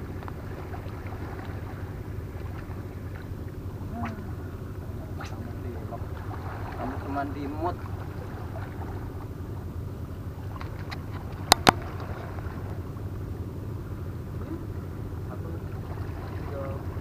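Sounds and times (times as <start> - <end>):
sea at rocky shore: 0.0 - 17.0
wind: 0.0 - 17.0.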